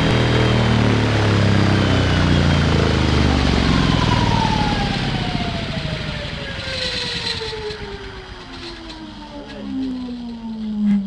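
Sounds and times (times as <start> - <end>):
electric motor whine falling: 0.0 - 11.0
propeller low drone: 0.0 - 11.0.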